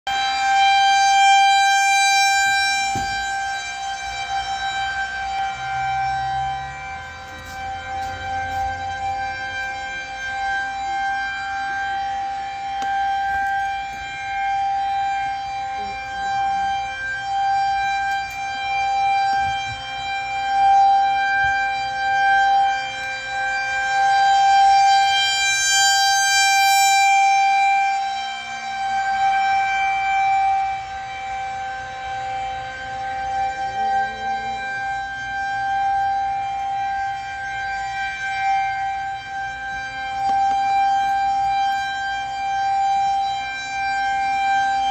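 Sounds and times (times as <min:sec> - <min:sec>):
rotating warning siren: 0:00.0 - 0:44.9.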